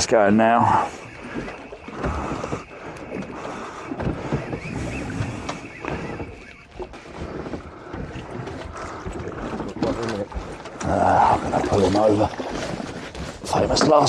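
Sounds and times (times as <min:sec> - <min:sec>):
sea noise: 0:00.0 - 0:14.0
wind buffeting microphone: 0:00.0 - 0:14.0.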